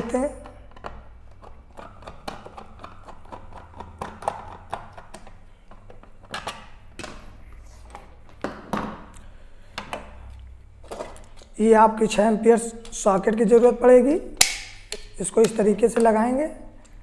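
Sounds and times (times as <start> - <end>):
plastic parts clicking and tapping: 0.0 - 11.5, 14.4 - 17.0.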